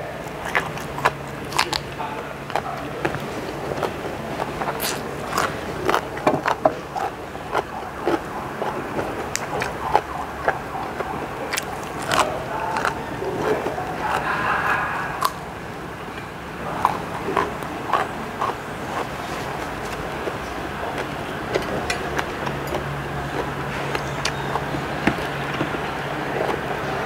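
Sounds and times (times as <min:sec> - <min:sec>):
person chewing crunchy greens: 0:00.0 - 0:27.0
wet mouth clicks: 0:00.2 - 0:15.6, 0:16.7 - 0:27.0.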